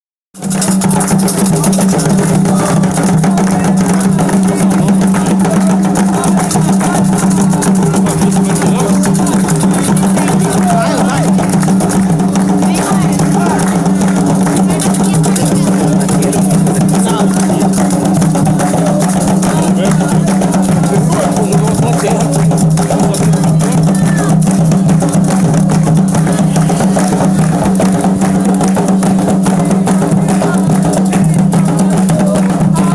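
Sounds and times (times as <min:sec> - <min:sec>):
ritual hand drum music: 0:00.4 - 0:32.9.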